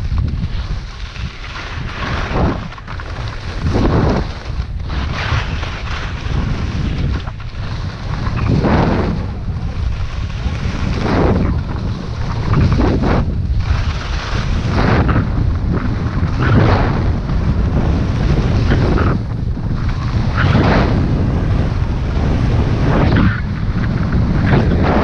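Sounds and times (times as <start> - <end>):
skis scraping snow: 0.0 - 25.0
wind buffeting microphone: 0.0 - 25.0.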